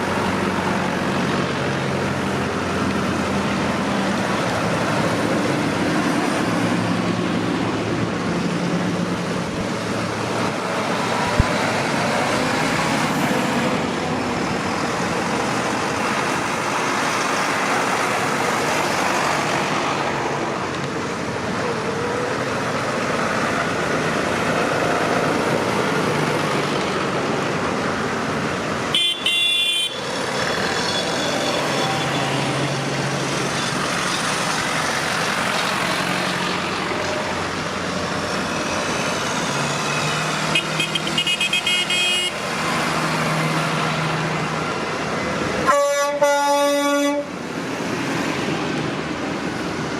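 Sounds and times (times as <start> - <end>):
tractor engines running: 0.0 - 45.7.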